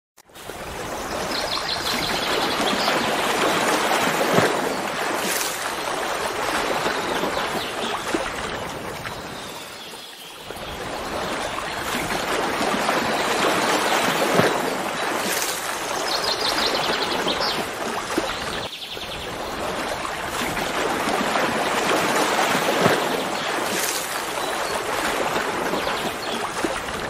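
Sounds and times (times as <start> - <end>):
water rushing: 0.3 - 27.0.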